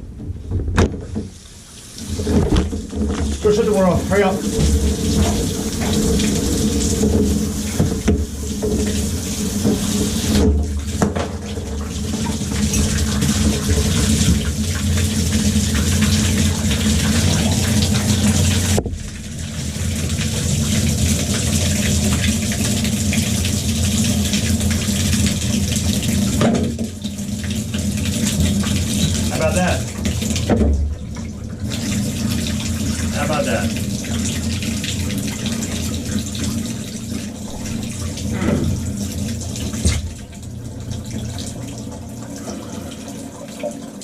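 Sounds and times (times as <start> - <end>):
water spraying from shower valve: 3.1 - 30.6, 31.6 - 44.0.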